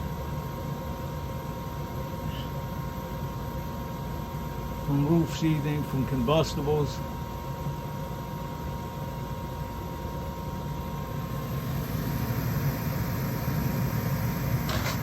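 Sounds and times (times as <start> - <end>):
furnace burners and fan rushing: 0.0 - 15.0.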